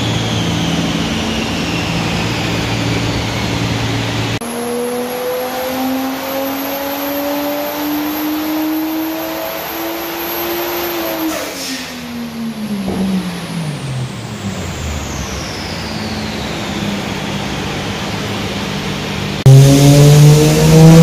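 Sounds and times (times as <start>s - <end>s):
car engine revving down: 0.0s - 21.0s
high whine sliding down: 0.0s - 21.0s.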